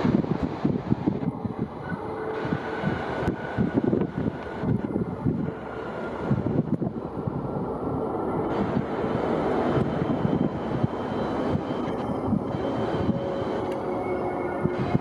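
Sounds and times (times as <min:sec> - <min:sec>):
airliner engine roar: 0:00.0 - 0:15.0
wind buffeting microphone: 0:00.0 - 0:15.0.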